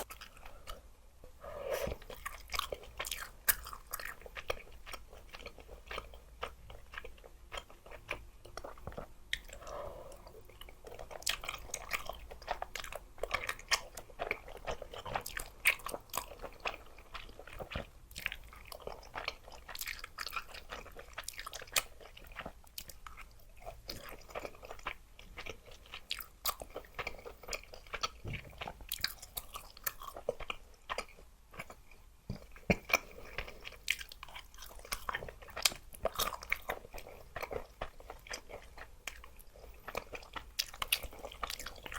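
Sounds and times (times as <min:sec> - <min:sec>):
wet chewing: 0:01.7 - 0:41.9.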